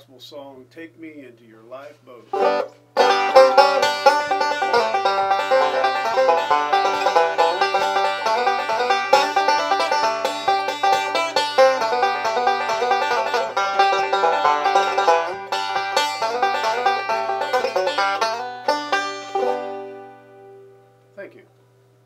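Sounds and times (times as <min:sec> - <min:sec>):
banjo picking fast notes: 0:02.3 - 0:20.5.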